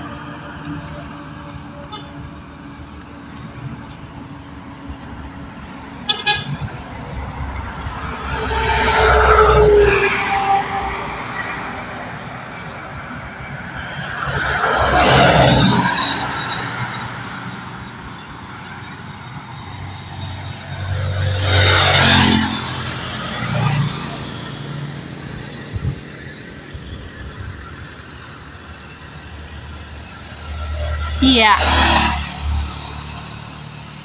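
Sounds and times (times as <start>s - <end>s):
distant traffic hum: 0.0s - 34.0s
vehicles passing close by: 0.0s - 34.0s.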